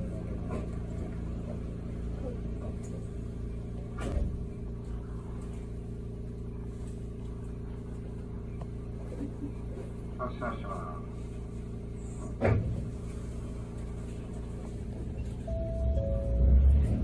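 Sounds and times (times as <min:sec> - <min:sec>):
streetcar hum with held tones: 0:00.0 - 0:17.0.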